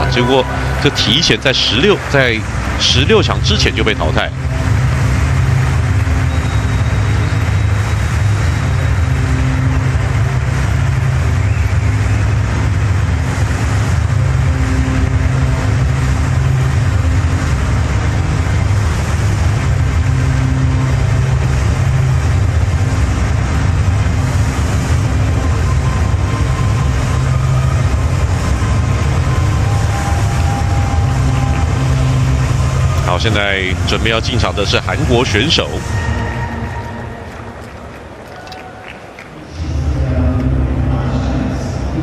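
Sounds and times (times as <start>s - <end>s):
deep low rumble: 1.7s - 37.6s.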